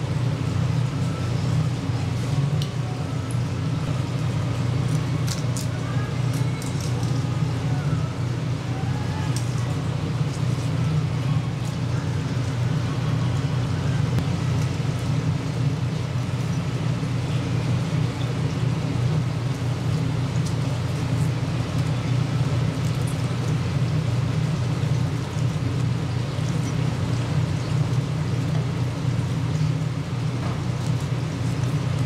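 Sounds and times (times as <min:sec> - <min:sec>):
low rumble with hiss: 0:00.0 - 0:32.0.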